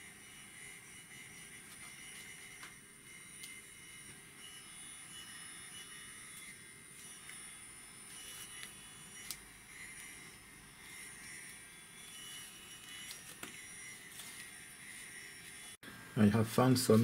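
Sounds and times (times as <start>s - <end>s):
high-pitched motor whine: 0.0s - 17.0s.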